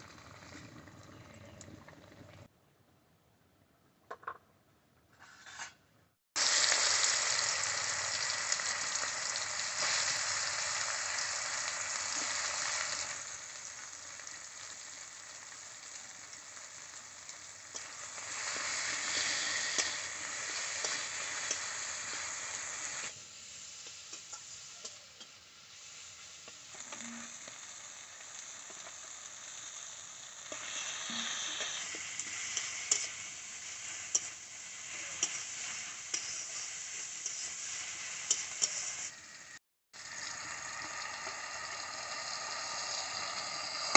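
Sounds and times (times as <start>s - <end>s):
food sizzling in oil: 6.4s - 43.9s.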